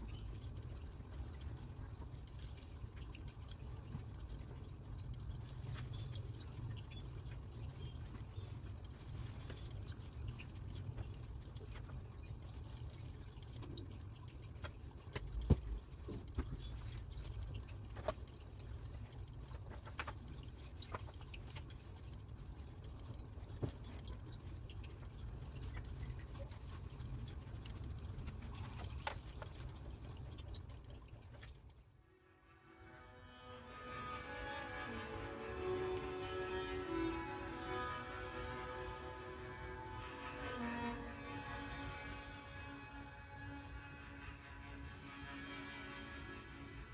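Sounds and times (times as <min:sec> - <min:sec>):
low steady rumble: 0:00.0 - 0:46.9
water dripping: 0:00.0 - 0:46.9.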